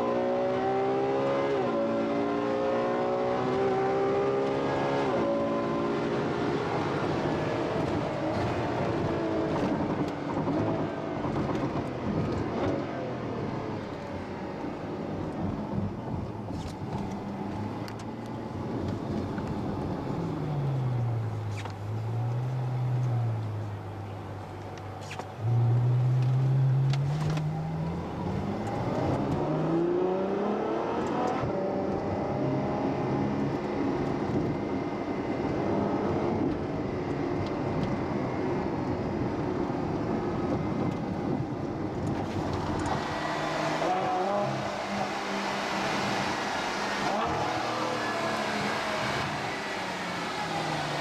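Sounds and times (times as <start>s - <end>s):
car engine accelerating: 0.0s - 14.0s, 15.3s - 34.9s, 42.0s - 51.0s
road noise: 0.0s - 51.0s.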